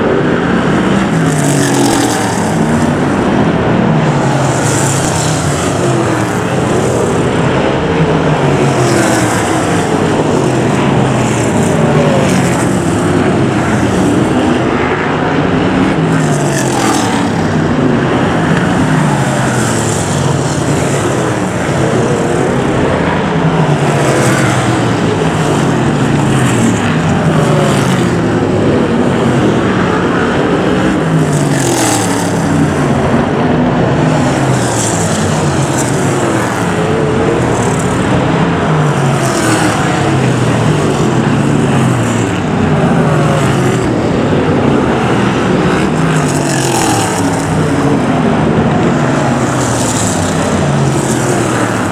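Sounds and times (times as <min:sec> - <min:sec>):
racing car engines revving: 0:00.0 - 0:51.9.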